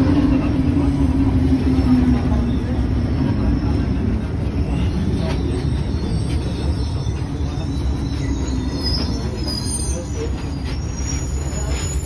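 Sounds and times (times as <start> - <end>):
train low rumble: 0.0 - 12.0
faint high wheel squeal: 1.6 - 12.0.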